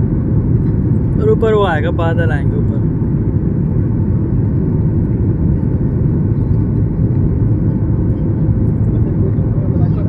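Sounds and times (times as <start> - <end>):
jet engine roar and rushing air: 0.0 - 10.0.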